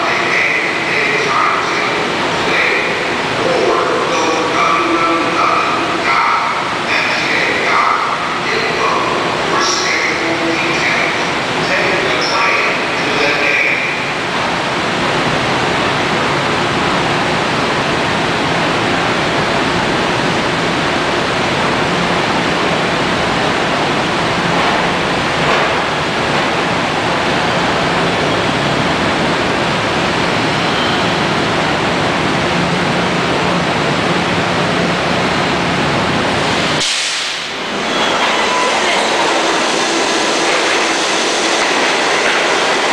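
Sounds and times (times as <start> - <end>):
machinery rushing noise: 0.0 - 20.6, 22.0 - 42.9.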